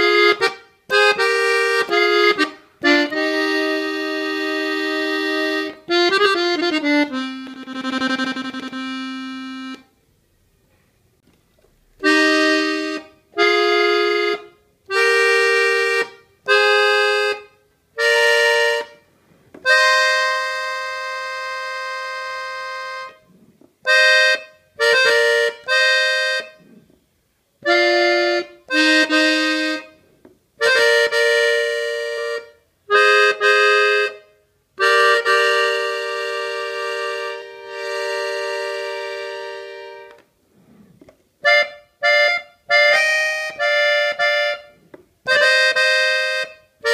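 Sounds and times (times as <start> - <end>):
button accordion melody: 0.0 - 10.0, 12.0 - 27.0, 27.6 - 46.9.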